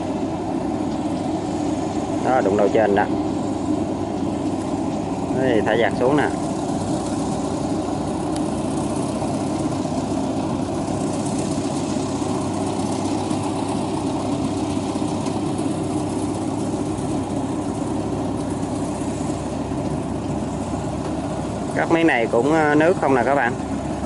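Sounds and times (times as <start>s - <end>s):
combine harvester engine running: 0.0s - 24.0s.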